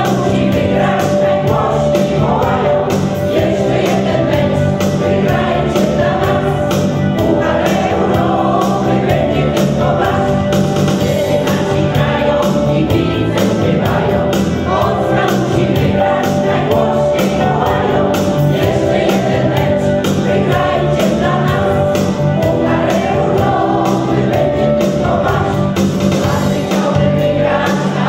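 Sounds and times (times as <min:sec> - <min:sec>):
choir singing: 0:00.0 - 0:28.0
keyboard: 0:00.0 - 0:28.0.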